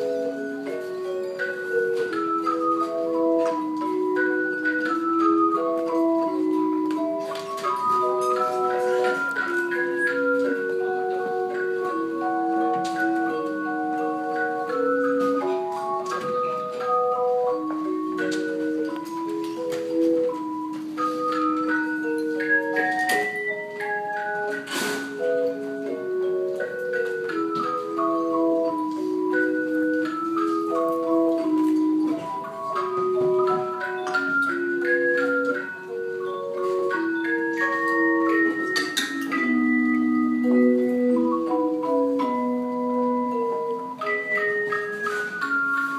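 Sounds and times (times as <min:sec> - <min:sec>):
tone chimes playing melody: 0:00.0 - 0:45.9.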